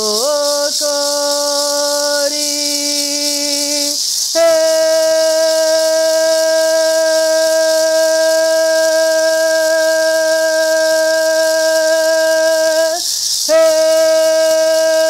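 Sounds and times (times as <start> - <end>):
gourd rattle shaking: 0.0 - 15.0.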